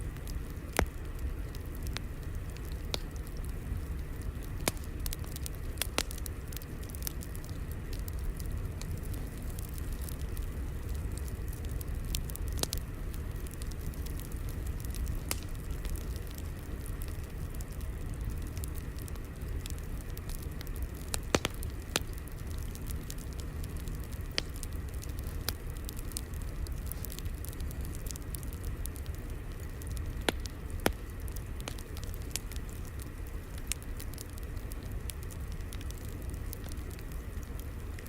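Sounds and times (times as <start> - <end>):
fire crackling with pops: 0.0 - 38.0.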